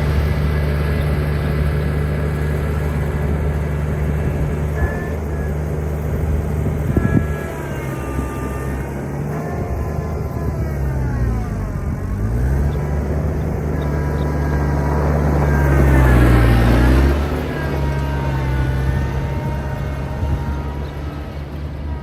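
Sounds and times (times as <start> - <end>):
high whine sliding in pitch: 0.0 - 22.0
tractor diesel engine running: 0.0 - 22.0.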